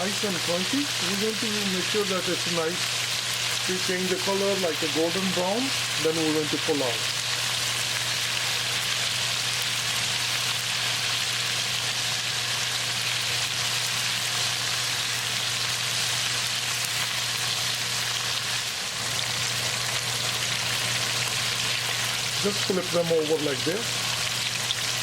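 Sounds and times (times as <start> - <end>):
oil sizzling and crackling: 0.0 - 25.0.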